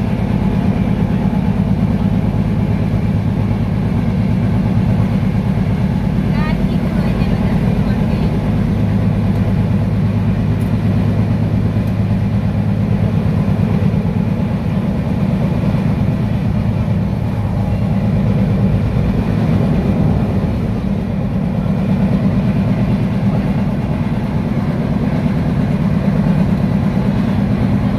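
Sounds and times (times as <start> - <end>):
large engine droning: 0.0 - 27.9.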